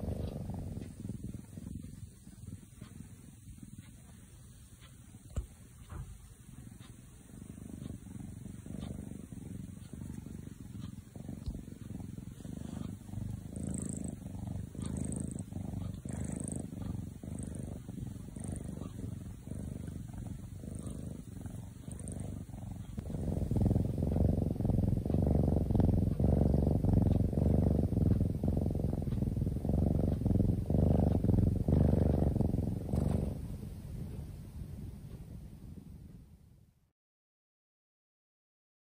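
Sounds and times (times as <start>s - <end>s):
kitten purring: 0.0s - 36.8s.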